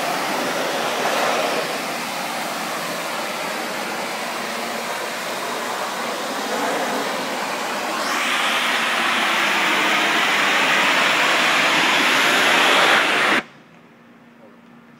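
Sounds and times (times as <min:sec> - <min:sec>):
pressure washer spraying wood: 0:00.0 - 0:13.5.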